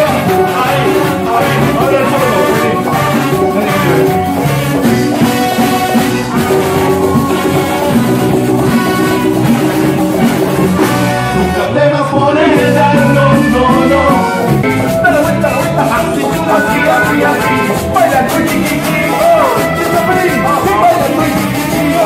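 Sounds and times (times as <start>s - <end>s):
accordion: 0.0s - 22.0s
brass: 0.0s - 22.0s
live band playing dance music: 0.0s - 22.0s.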